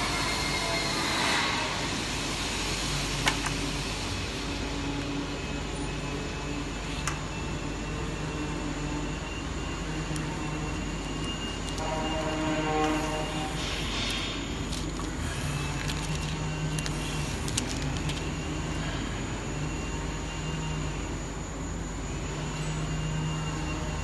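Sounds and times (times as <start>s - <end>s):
fusing press mechanical hum: 0.0s - 24.0s.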